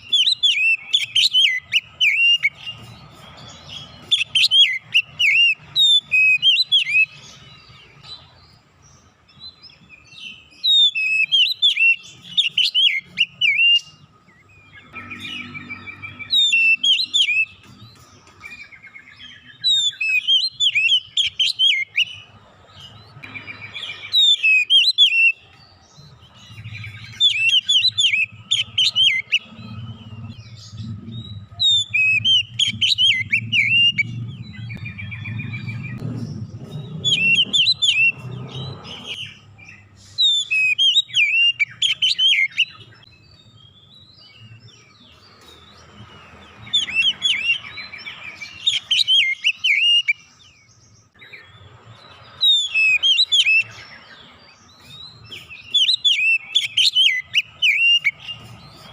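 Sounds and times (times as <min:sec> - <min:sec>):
bird singing whistled phrases: 0:00.0 - 0:02.8, 0:03.7 - 0:07.2, 0:10.3 - 0:17.7, 0:18.4 - 0:22.3, 0:23.2 - 0:25.6, 0:26.4 - 0:36.0, 0:36.9 - 0:44.7, 0:46.6 - 0:50.5, 0:52.3 - 0:58.8.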